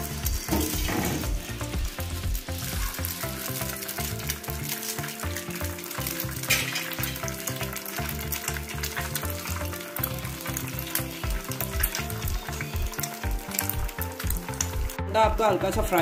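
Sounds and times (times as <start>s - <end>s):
background music with rhythmic pulse: 0.0s - 16.0s
egg sizzling in frying pan: 0.0s - 16.0s.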